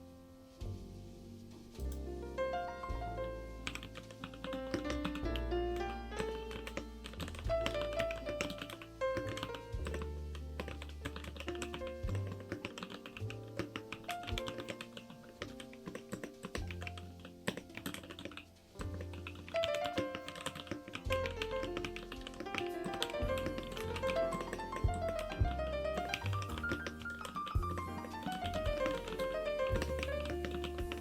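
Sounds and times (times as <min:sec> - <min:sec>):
background music: 0:00.0 - 0:31.0
mechanical keyboard typing: 0:03.7 - 0:05.5, 0:06.1 - 0:10.0, 0:10.6 - 0:18.4, 0:19.0 - 0:31.0.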